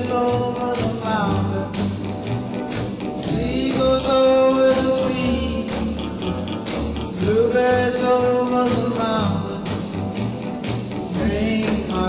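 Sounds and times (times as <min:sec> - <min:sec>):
bass beat: 0:00.0 - 0:12.0
percussion hits: 0:00.0 - 0:12.0.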